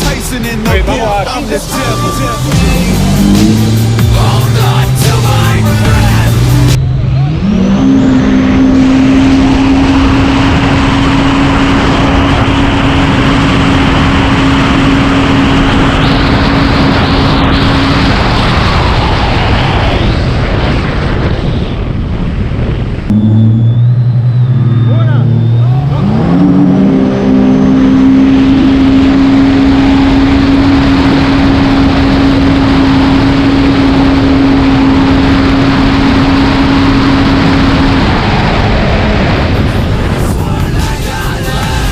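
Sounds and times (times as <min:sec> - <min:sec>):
loud rushing noise: 0:00.0 - 0:41.9
jet ski engine at high revs: 0:01.8 - 0:21.7, 0:23.1 - 0:40.3.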